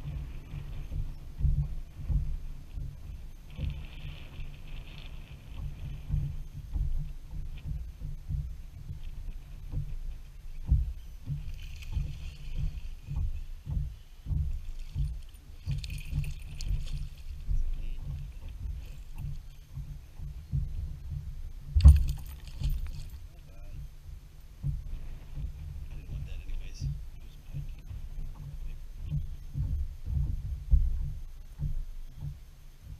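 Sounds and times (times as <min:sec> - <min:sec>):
low thumps: 0:00.0 - 0:32.9.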